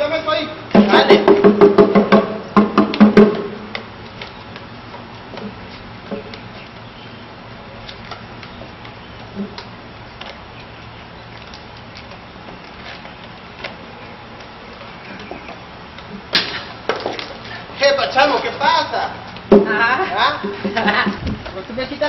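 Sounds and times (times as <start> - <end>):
faint background noise: 0.0 - 22.0.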